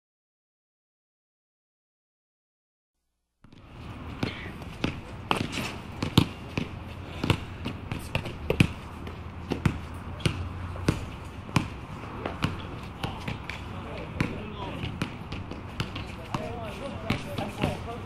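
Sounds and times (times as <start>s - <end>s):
basketballs bouncing on gym floor: 3.4s - 18.0s.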